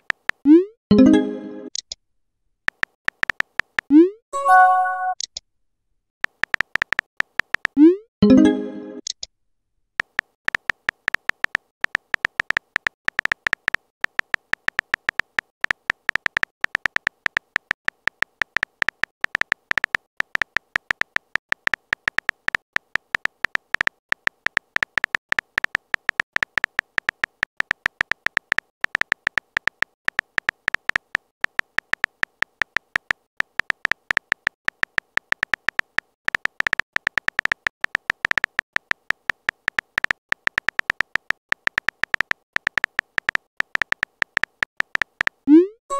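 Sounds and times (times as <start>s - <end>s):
phone keyboard clicks: 2.7s - 3.9s, 6.2s - 7.8s, 10.0s - 45.5s.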